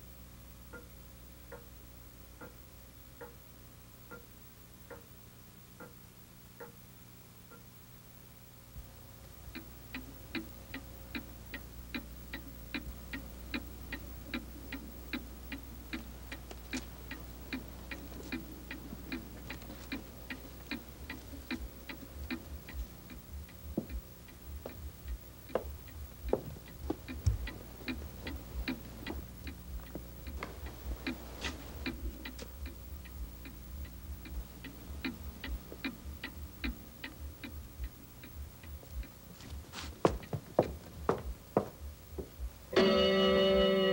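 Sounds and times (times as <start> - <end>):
low steady hum: 0.0 - 43.9
clock ticking: 1.5 - 1.7, 2.4 - 2.6, 3.2 - 3.4, 4.1 - 4.3, 9.4 - 43.8.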